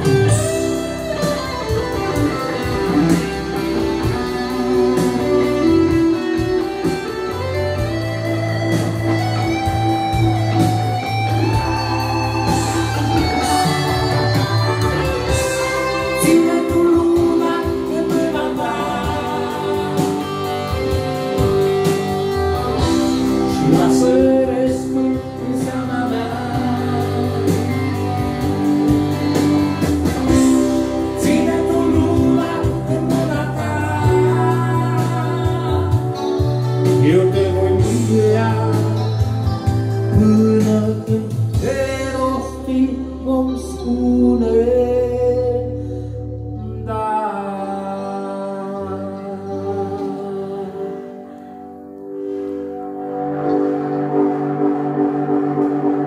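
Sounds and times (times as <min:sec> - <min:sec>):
steady bass line: 0:00.0 - 0:47.0
electric guitar: 0:00.0 - 0:56.0
keyboards: 0:00.0 - 0:56.0.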